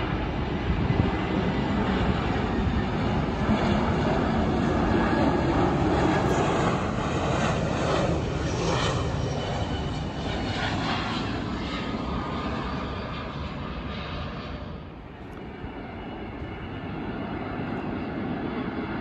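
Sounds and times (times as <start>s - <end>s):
faint jet engine whine: 0.0s - 19.0s
jet airliner engines rushing: 0.0s - 19.0s.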